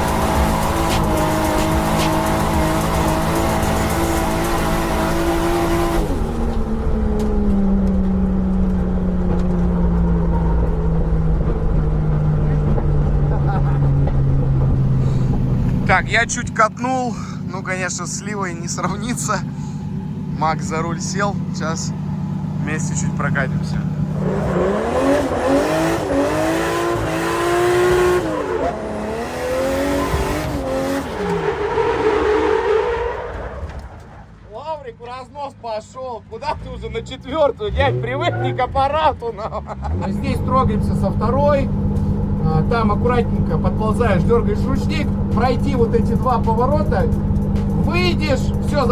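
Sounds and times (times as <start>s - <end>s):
car engine droning: 0.0s - 48.9s.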